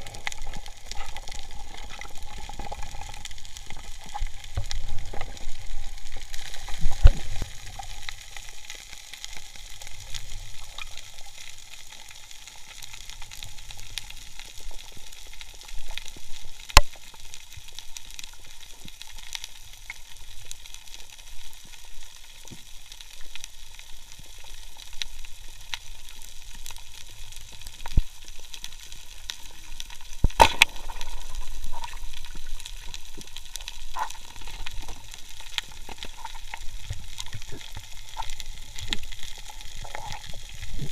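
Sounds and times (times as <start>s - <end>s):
snapping shrimp crackle underwater: 0.0s - 40.9s.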